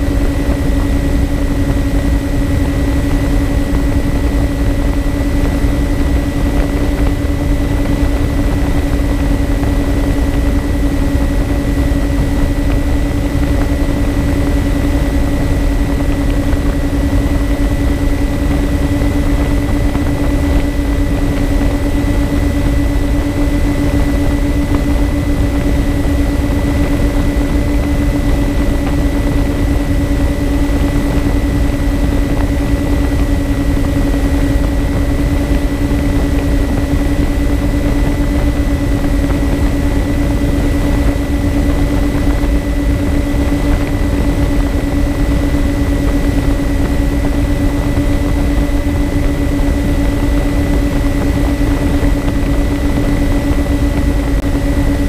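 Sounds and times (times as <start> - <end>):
model plane motors humming: 0.0 - 55.0.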